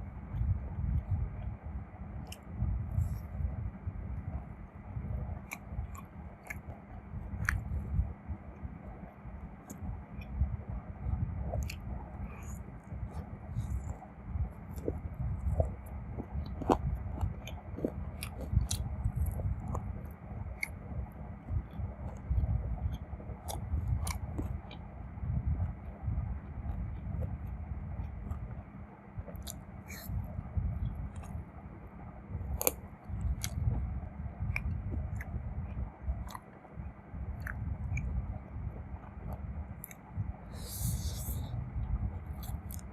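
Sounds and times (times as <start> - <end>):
person chewing food: 2.2 - 3.4, 5.2 - 8.1, 9.5 - 24.9, 25.5 - 42.9.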